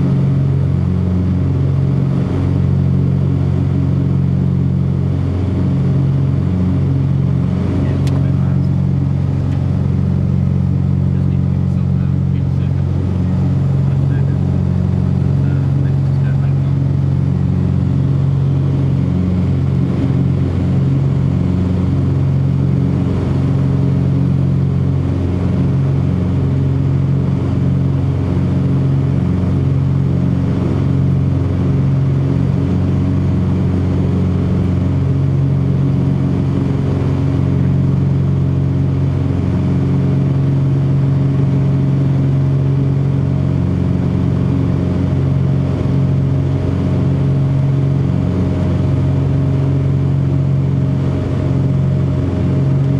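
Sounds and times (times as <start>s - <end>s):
propeller aircraft engines droning: 0.0s - 52.9s.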